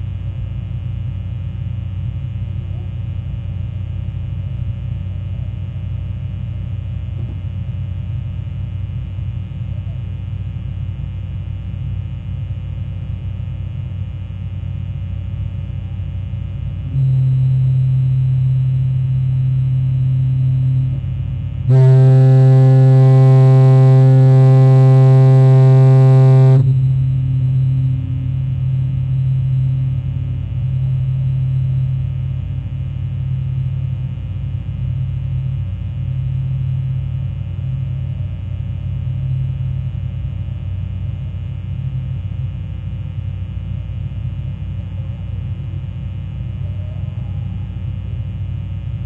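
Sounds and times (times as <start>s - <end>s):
foghorn low steady tone: 0.0s - 49.0s.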